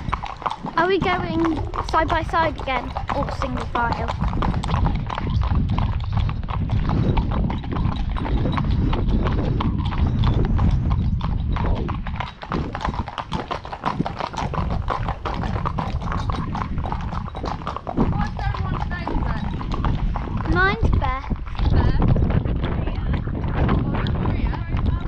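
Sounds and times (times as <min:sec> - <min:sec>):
hooves clip-clopping on tarmac: 0:00.0 - 0:25.0
low rumble: 0:02.6 - 0:25.0.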